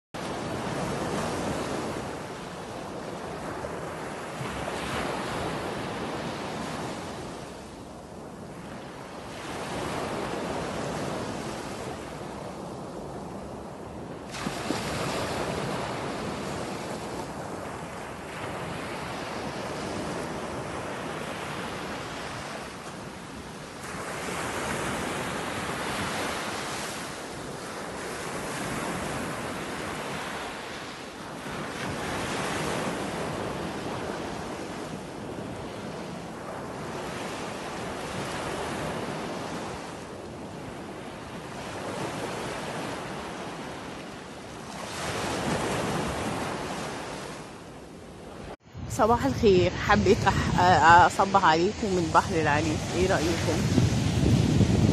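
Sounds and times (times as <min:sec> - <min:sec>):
sea waves breaking on beach: 0:00.2 - 0:54.9.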